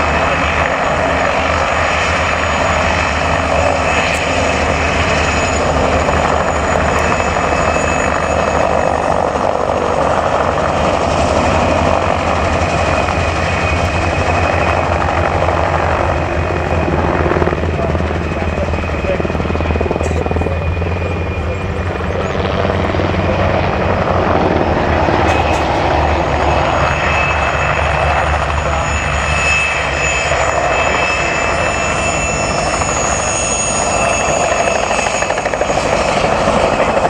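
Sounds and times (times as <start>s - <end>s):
helicopter rotor beat: 0.0s - 37.0s
helicopter turbine whine: 0.0s - 37.0s.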